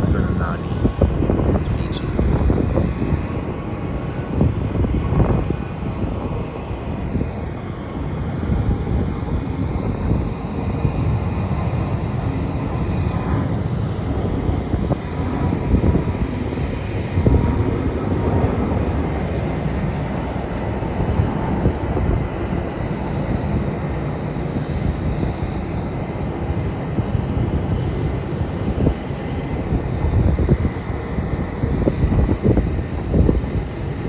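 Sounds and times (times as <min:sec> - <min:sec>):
distant jet engines rumbling: 0:00.0 - 0:34.0
wind buffeting microphone: 0:00.0 - 0:34.0.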